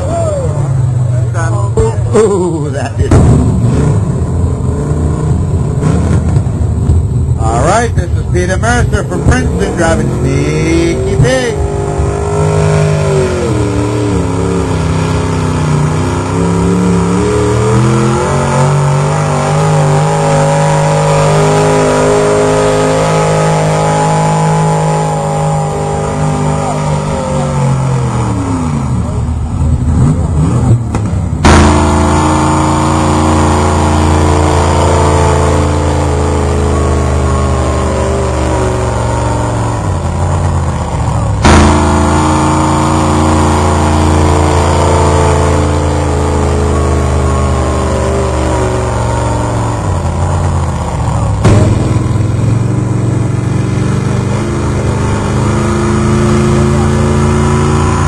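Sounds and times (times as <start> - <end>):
truck engine under heavy load: 0.0 - 58.0.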